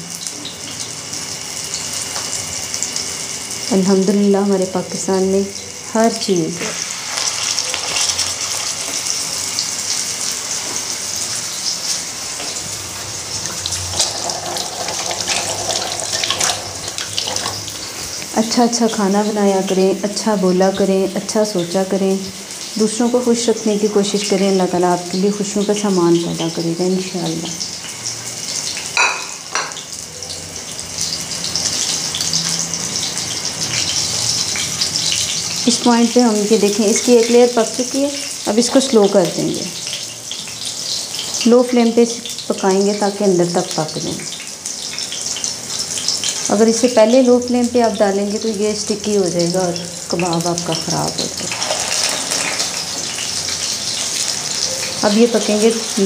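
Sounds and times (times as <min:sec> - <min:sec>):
patties sizzling in oil: 0:00.0 - 0:56.0.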